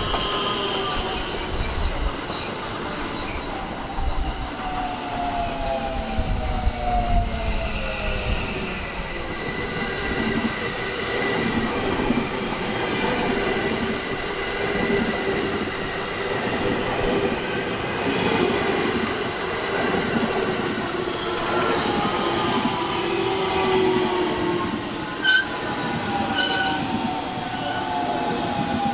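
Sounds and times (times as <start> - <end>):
train rolling: 0.0 - 28.9.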